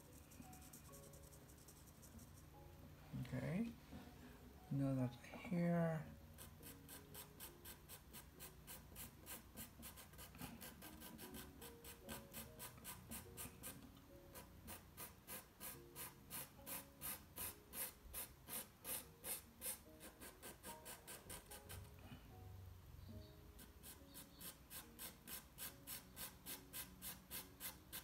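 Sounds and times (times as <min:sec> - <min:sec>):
pencil scratching on paper: 0:00.0 - 0:02.6, 0:06.3 - 0:21.9, 0:23.6 - 0:28.0.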